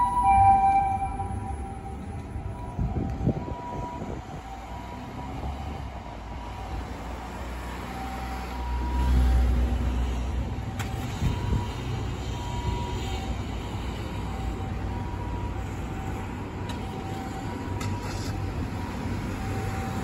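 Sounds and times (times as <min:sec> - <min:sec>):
two-tone ambulance siren: 0:00.0 - 0:20.0.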